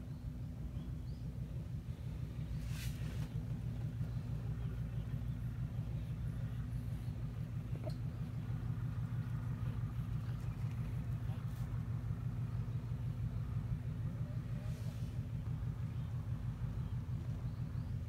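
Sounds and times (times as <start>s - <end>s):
low fluttering rumble: 0.0s - 18.0s.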